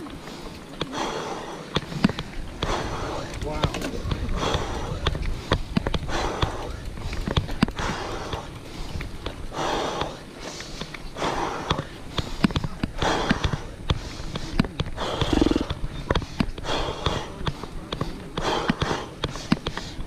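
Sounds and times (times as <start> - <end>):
bike clicks and rattles: 0.0 - 20.0
cyclist breathing hard: 0.0 - 20.0.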